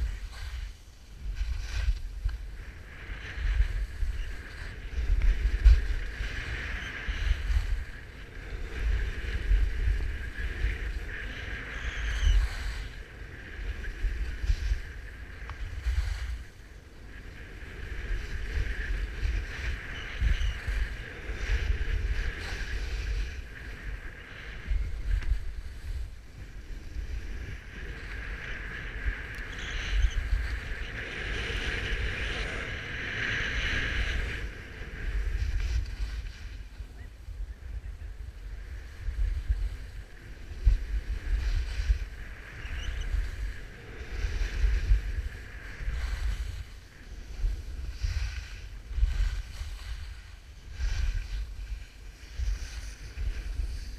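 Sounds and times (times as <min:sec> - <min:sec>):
skis scraping over snow: 0:00.0 - 0:53.9
wind buffeting microphone: 0:00.0 - 0:53.9.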